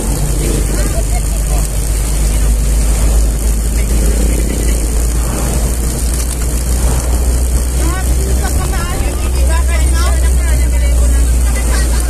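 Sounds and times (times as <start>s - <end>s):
car engine rumble: 0.0s - 12.0s
tyres on road: 0.0s - 12.0s.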